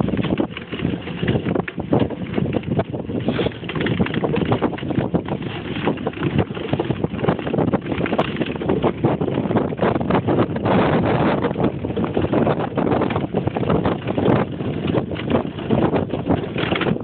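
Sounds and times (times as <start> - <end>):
runners rattling on ice: 0.0 - 17.0
wind buffeting microphone: 0.0 - 17.0.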